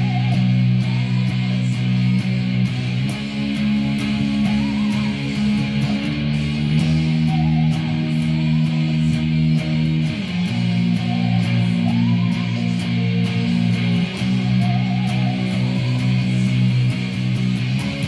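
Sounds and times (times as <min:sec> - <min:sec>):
bass guitar: 0:00.0 - 0:18.0
electric guitar chords: 0:00.0 - 0:18.0.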